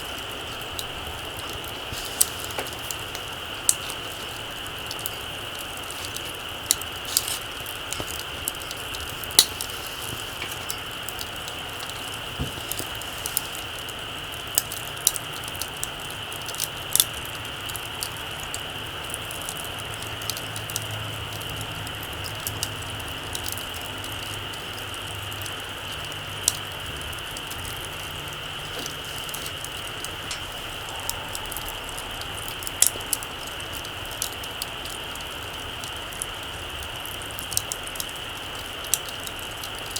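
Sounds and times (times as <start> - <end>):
campfire crackling: 0.0 - 39.9
fire hiss: 0.0 - 39.9.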